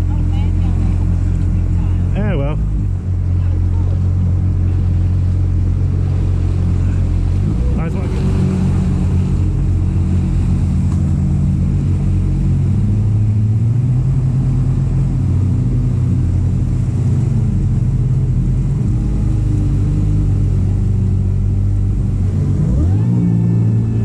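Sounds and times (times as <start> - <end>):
jet ski engine droning: 0.0 - 24.0
rush of churned water: 0.0 - 24.0.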